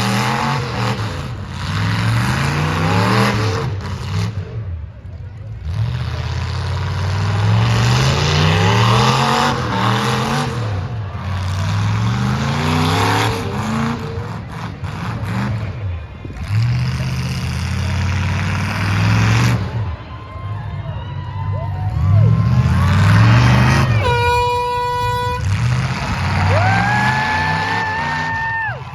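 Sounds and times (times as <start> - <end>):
truck engines revving hard: 0.0 - 28.9.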